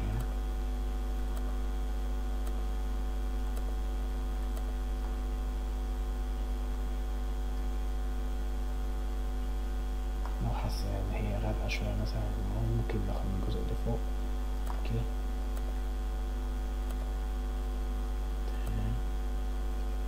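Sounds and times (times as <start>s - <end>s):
low mains hum: 0.0s - 20.0s.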